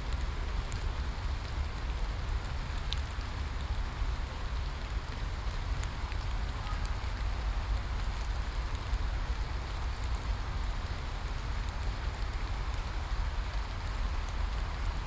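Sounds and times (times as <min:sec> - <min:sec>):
raindrop ticks: 0:00.1 - 0:03.8, 0:04.6 - 0:15.0.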